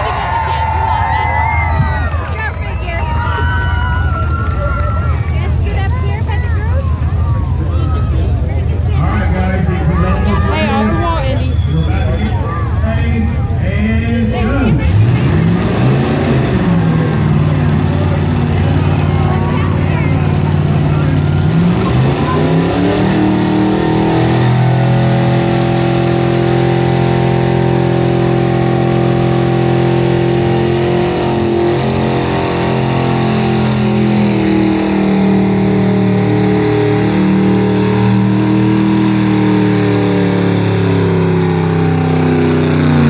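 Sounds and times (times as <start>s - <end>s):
car engine revving: 0.0s - 43.0s
spinning tyres hissing: 3.9s - 43.0s.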